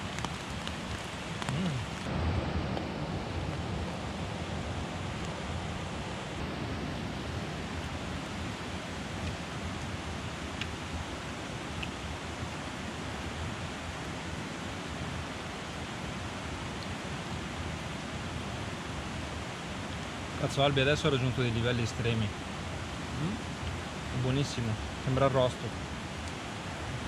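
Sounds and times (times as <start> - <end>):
steady rain in forest: 0.0 - 27.0.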